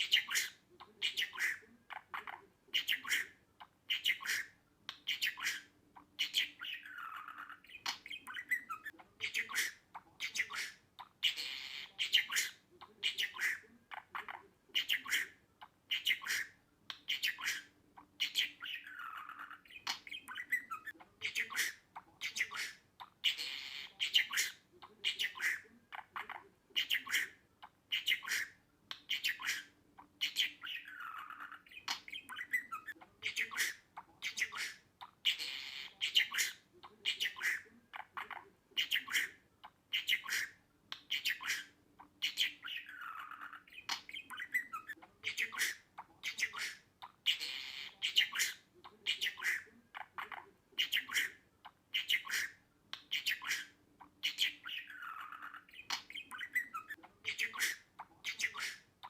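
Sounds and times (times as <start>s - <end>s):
budgerigar chirping and squawking: 0.0s - 59.0s.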